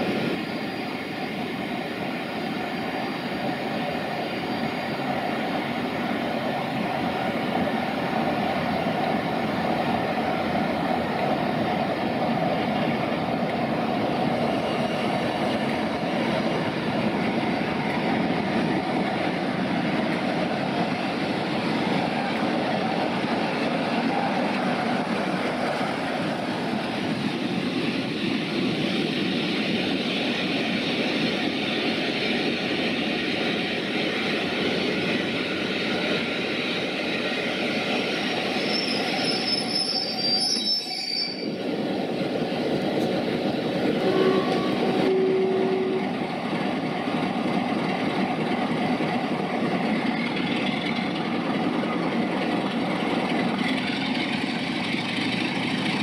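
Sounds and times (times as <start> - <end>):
diesel locomotive engine running: 0.0 - 40.3, 41.5 - 56.0.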